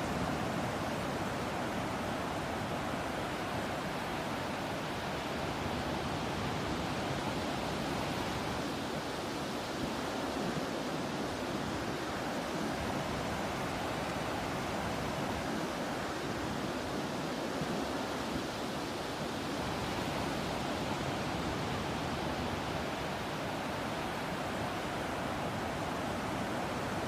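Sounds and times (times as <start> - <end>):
sea breeze: 0.0 - 27.0.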